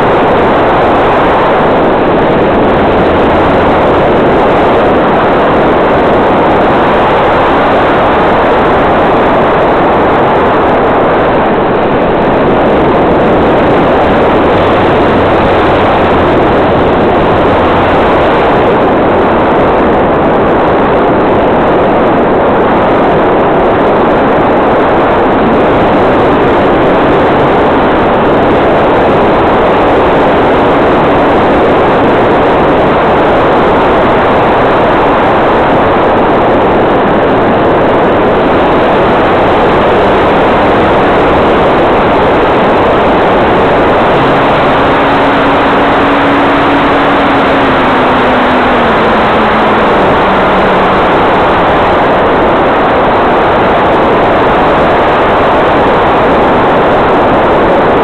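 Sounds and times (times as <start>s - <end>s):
model airplane propeller: 0.0s - 58.0s
wind rushing: 0.0s - 58.0s.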